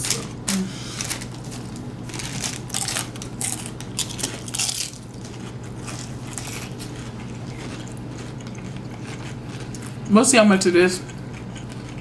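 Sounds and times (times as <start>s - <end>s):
crunching chewing of crisp food: 0.0s - 10.1s, 11.0s - 12.0s.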